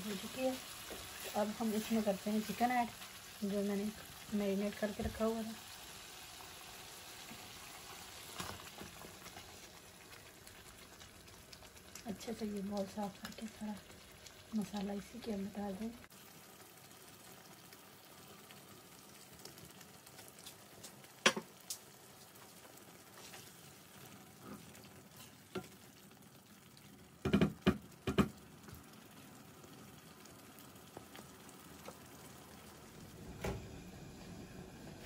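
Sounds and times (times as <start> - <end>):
food sizzling in a frying pan: 0.0 - 35.0.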